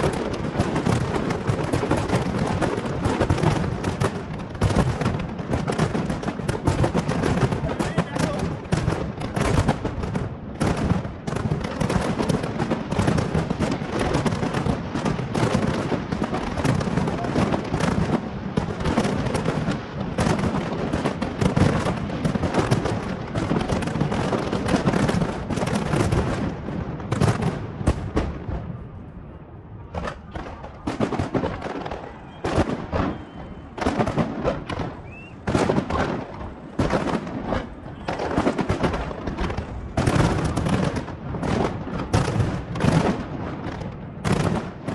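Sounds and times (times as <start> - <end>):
fireworks bangs: 0.0 - 44.9.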